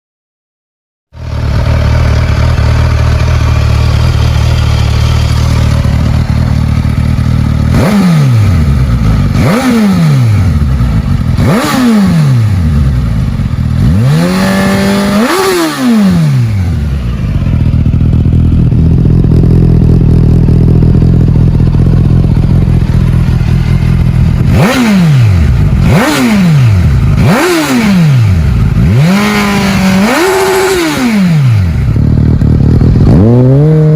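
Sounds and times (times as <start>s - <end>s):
motorcycle engine idling and revving: 1.1s - 33.9s.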